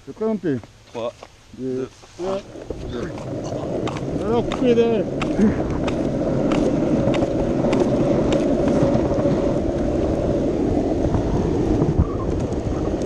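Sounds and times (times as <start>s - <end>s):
skateboard wheels rolling on asphalt: 0.5s - 13.0s
wind on the microphone: 2.2s - 13.0s.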